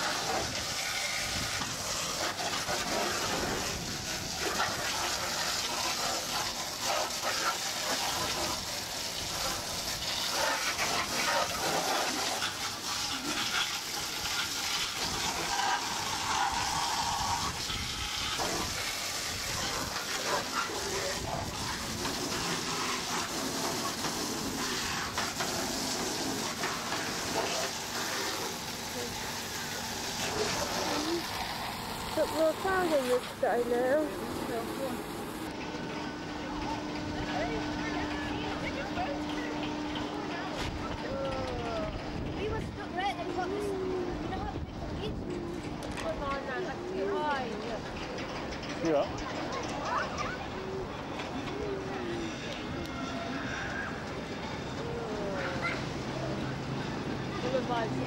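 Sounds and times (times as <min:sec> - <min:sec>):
distant voices: 0:00.0 - 0:58.0
fairground noise: 0:00.0 - 0:58.0
water jets spraying and splashing: 0:00.0 - 0:58.0.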